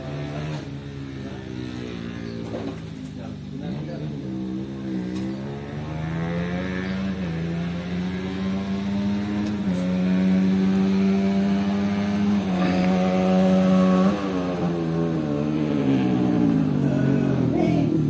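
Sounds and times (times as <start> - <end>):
motocross bike engine running: 0.0 - 17.9.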